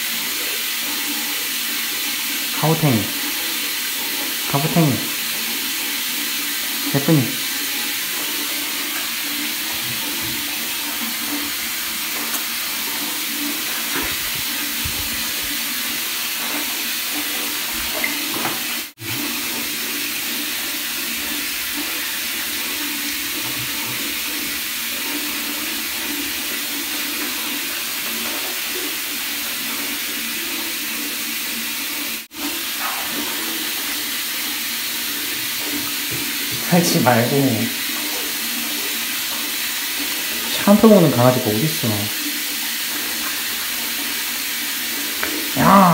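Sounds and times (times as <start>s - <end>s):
tap water running into bathtub: 0.0s - 45.9s.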